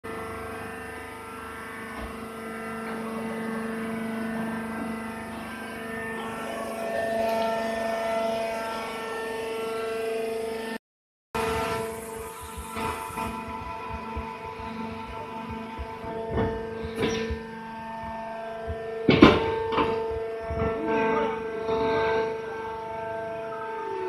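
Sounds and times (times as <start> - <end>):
hydraulic baler motor humming: 0.1 - 10.8, 11.4 - 24.0.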